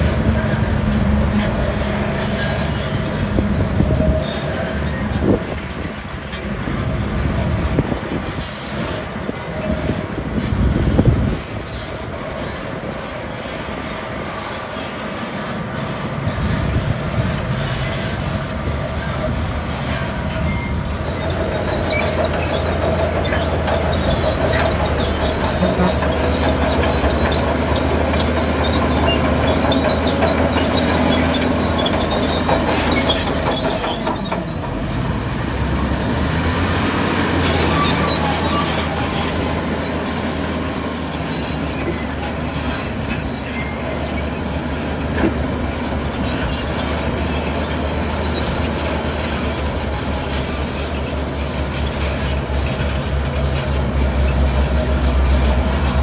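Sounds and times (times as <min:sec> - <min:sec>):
bulldozer diesel engine: 0:00.0 - 0:56.0
steel tracks squealing and clanking: 0:00.0 - 0:56.0.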